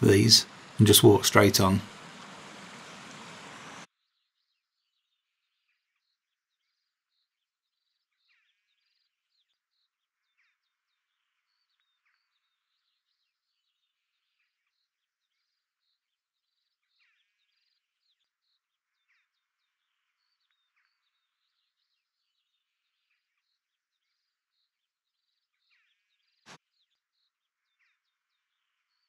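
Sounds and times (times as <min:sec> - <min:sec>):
faint small birds chirping: 0:00.0 - 0:29.0.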